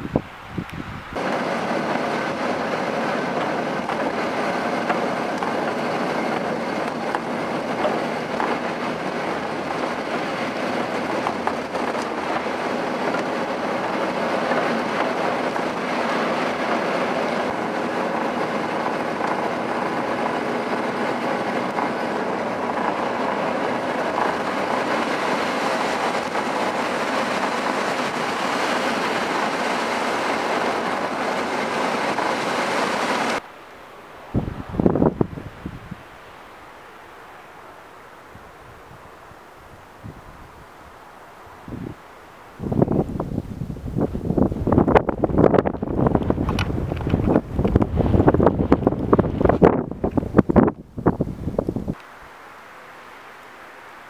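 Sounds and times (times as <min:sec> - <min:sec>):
car road and tyre noise on snow: 0:00.0 - 0:54.0.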